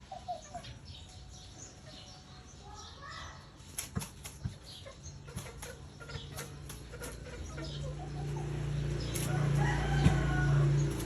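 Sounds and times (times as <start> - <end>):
chicken chirping calls: 0.0 - 11.0.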